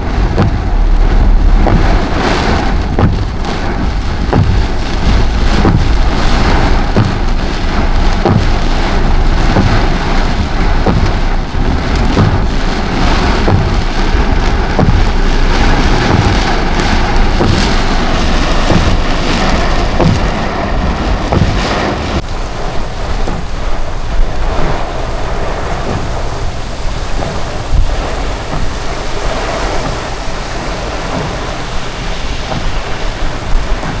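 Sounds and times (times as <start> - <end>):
heavy rain pouring: 0.0 - 34.0
low rumble: 0.0 - 34.0
raindrops hitting surface: 0.0 - 34.0.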